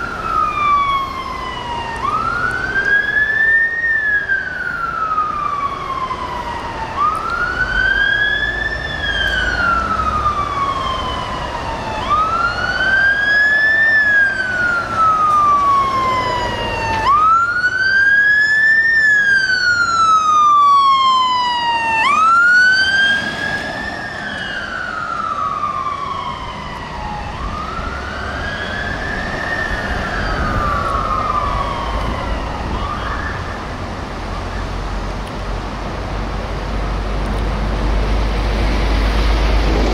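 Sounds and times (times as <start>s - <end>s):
engine and road noise: 0.0s - 39.9s
fire engine siren wailing: 0.0s - 39.9s.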